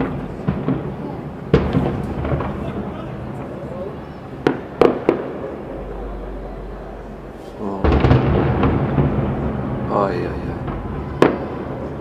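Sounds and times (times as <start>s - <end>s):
fireworks bangs: 0.0s - 12.0s
fireworks crackling and booms: 0.0s - 12.0s.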